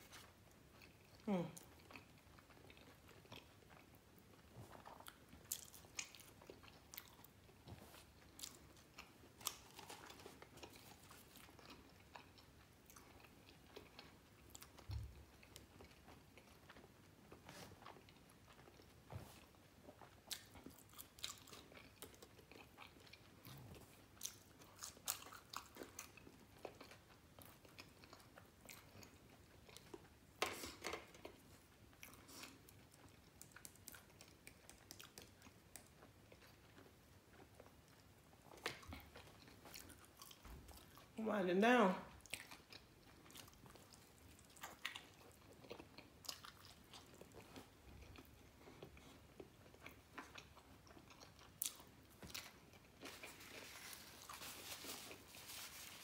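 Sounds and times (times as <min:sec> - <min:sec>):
person chewing a burger: 0:00.0 - 0:41.2, 0:42.1 - 0:56.0.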